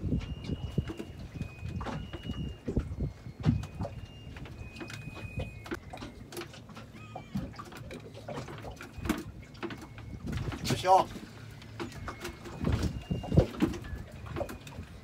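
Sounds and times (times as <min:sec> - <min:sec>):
knocks and clatter in boat: 0:00.0 - 0:15.0.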